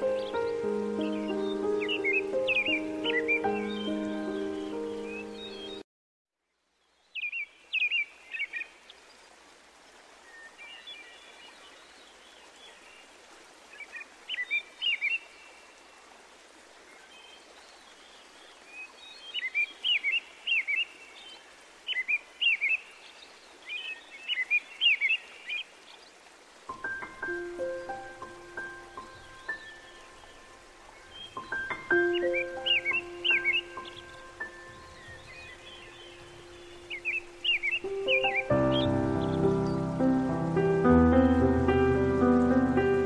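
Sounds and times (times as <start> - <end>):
background hiss: 0.0 - 5.8, 6.4 - 43.0
songbirds chirping: 0.0 - 5.8, 6.6 - 43.0.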